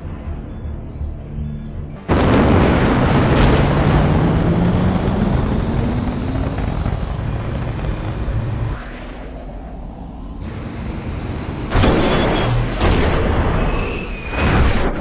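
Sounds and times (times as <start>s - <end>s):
jet engines roaring: 2.1s - 15.0s.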